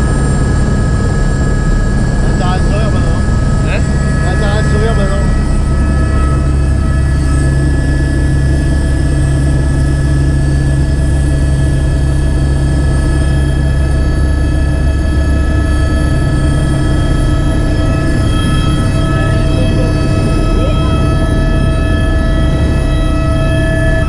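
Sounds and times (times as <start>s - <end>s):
helicopter rotor and engine hum: 0.0s - 24.0s
turbine whine: 0.0s - 24.0s.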